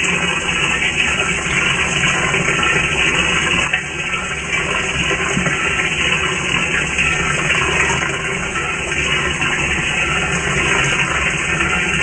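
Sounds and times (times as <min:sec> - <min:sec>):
water pouring into washing machine: 0:00.0 - 0:12.0.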